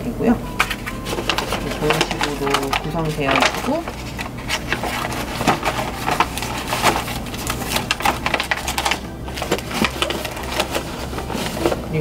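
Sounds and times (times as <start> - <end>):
paper packaging rustling: 0.5 - 12.0.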